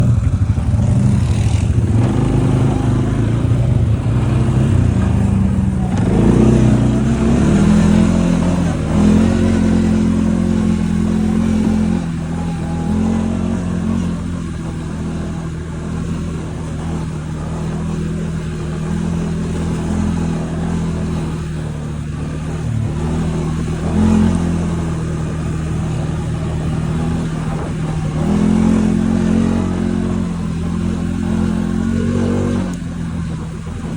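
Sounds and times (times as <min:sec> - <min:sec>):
quad bike engine revving: 0:00.0 - 0:33.9.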